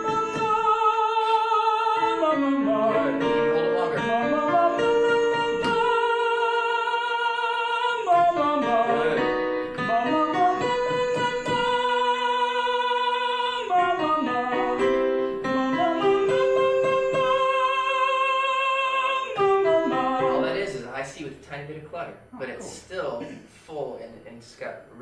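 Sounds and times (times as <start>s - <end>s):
man singing vocal exercise: 0.0s - 15.0s, 15.6s - 20.8s
instrumental accompaniment: 0.0s - 21.2s.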